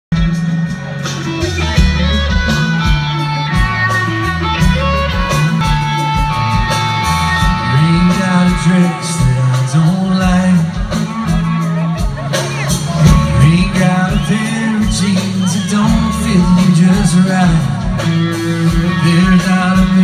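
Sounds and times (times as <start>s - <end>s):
live country band playing: 0.1s - 20.0s.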